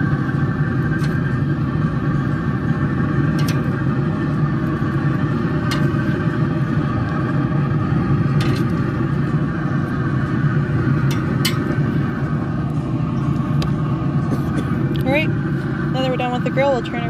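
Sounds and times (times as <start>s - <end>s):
grill fan humming: 0.0s - 17.0s.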